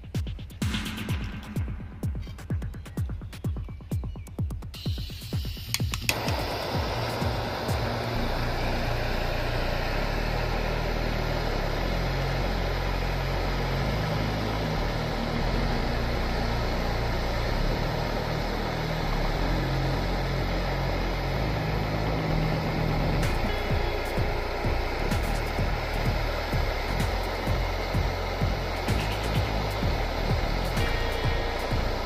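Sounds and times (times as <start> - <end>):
gas torch hissing: 4.8 - 32.0.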